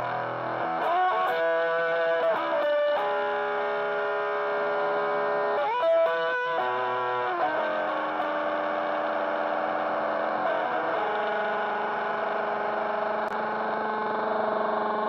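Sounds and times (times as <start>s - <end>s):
fuzzed electric guitar: 0.0s - 15.0s.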